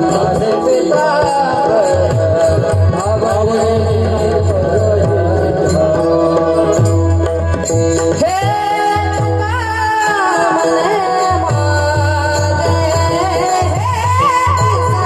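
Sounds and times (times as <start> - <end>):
man singing devotional song: 0.0 - 15.0
tabla: 0.0 - 15.0.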